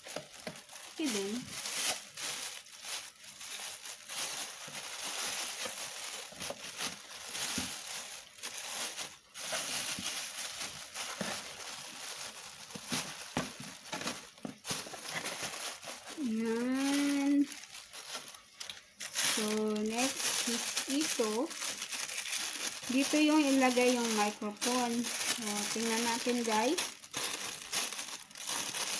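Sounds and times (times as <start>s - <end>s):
plastic bags crinkling: 0.0s - 28.9s.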